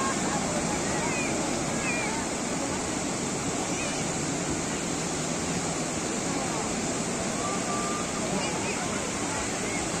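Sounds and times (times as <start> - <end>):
small waves breaking on sand: 0.0 - 10.0.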